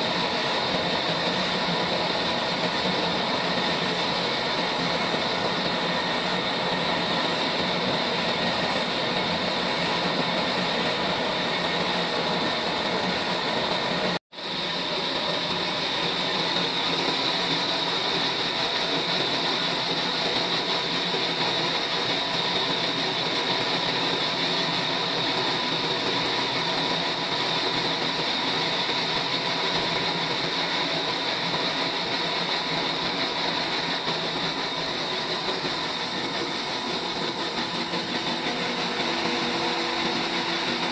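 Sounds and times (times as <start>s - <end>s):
sawmill machine whirring: 0.0s - 40.9s.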